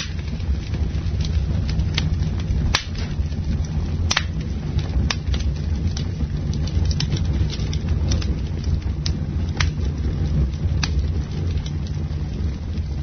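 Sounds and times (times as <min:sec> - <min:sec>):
campfire low rumble: 0:00.0 - 0:13.0
crackles and pops of burning wood: 0:00.0 - 0:13.0.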